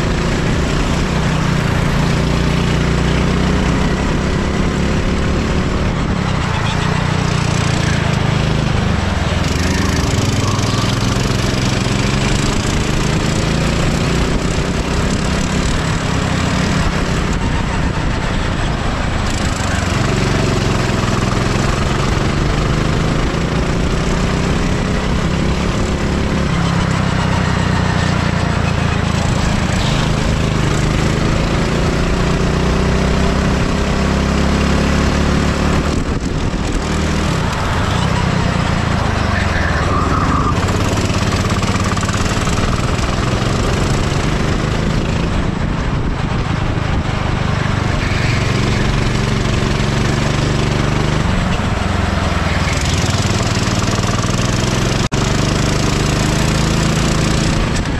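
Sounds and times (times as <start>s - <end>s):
go-kart engine revving: 0.0s - 57.9s.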